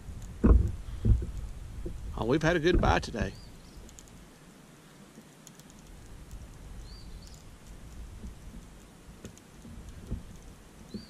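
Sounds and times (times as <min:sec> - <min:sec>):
water: 0:00.0 - 0:11.0
wind: 0:00.0 - 0:11.0.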